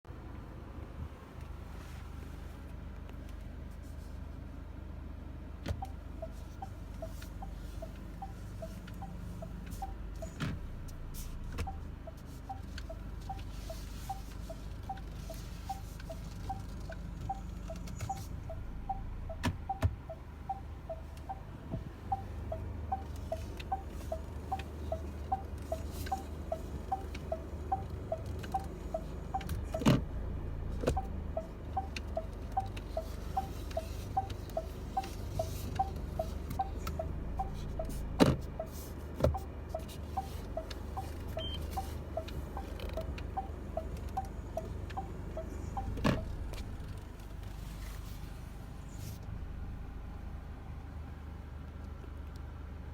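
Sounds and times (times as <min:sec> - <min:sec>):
car engine idling: 0:00.1 - 0:52.9.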